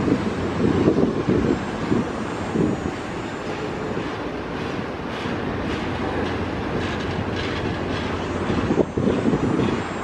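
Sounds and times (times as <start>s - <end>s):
freight train rumbling: 0.0s - 10.0s
wheels clicking over rail joints: 0.0s - 10.0s.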